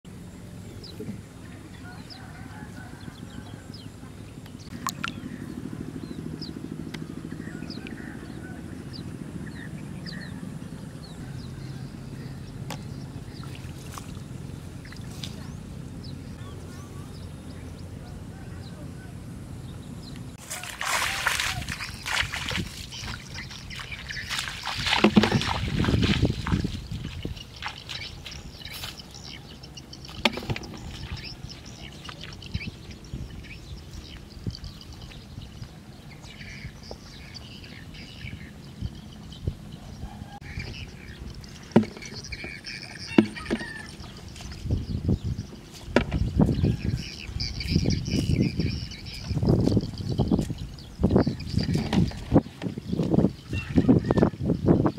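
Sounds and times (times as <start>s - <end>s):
engine humming: 0.0s - 52.8s
small birds chirping: 0.1s - 20.4s, 21.0s - 54.9s
low outdoor rumble: 0.1s - 53.5s.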